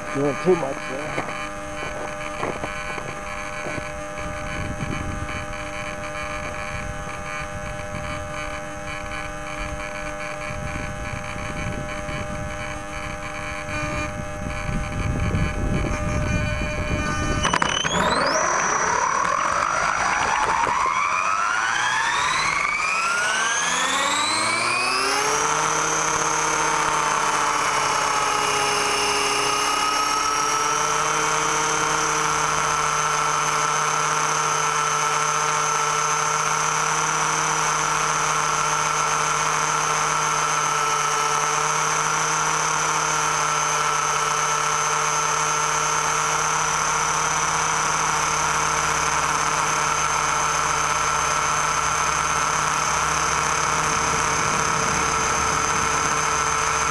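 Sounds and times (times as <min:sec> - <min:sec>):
model plane motor whine: 0:00.0 - 0:56.9.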